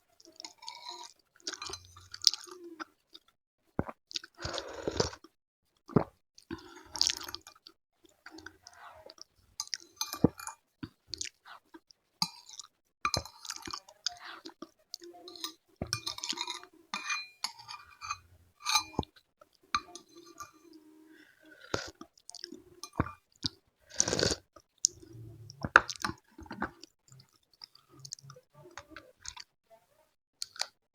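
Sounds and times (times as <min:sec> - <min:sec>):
chewing food: 0:00.2 - 0:16.7, 0:19.0 - 0:29.5, 0:30.4 - 0:30.8.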